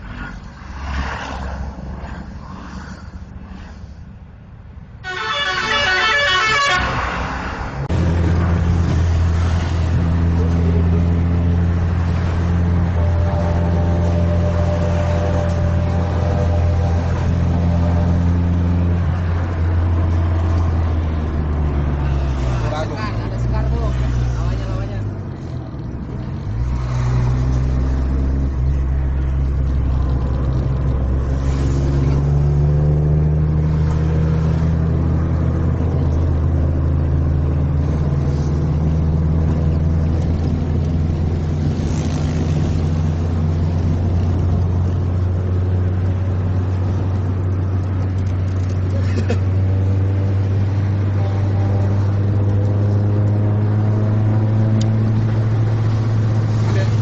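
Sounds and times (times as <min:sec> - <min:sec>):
bus engine accelerating: 0:06.9 - 0:57.0.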